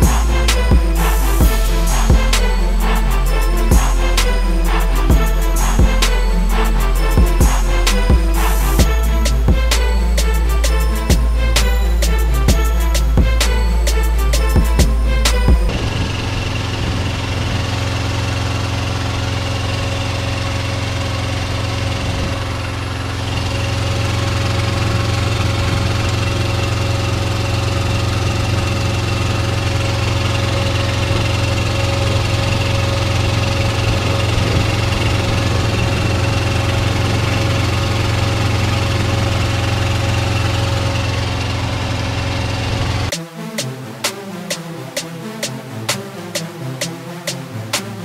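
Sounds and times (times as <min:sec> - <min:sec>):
truck engine idling: 0:00.0 - 0:43.2.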